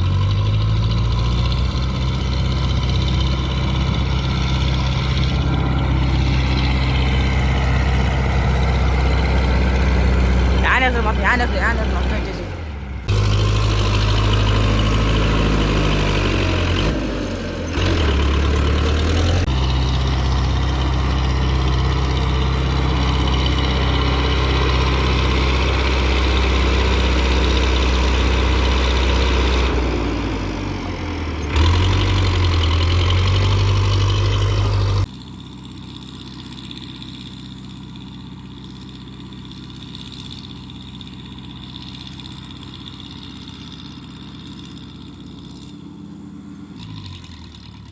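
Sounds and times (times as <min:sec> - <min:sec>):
tractor diesel engine revving: 0:00.0 - 0:47.9.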